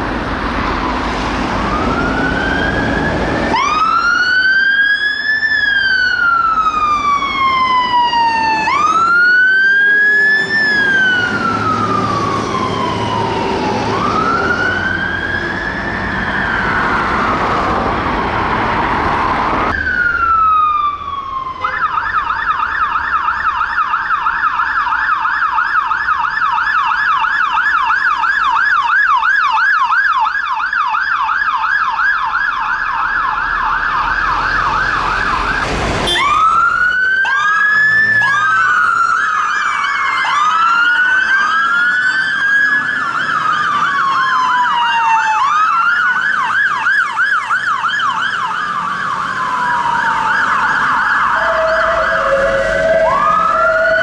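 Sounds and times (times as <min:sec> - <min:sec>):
fire engine sirens wailing: 0:00.0 - 0:54.0
siren yelping: 0:01.6 - 0:18.3, 0:19.1 - 0:54.0.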